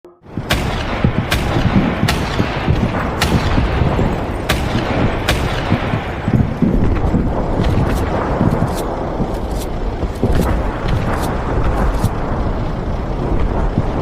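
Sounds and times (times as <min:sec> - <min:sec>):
low background rumble: 0:00.1 - 0:14.0.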